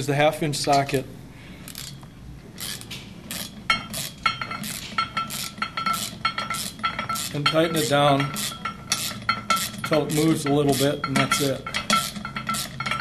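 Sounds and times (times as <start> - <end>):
ratchet clicking: 1.6 - 13.0.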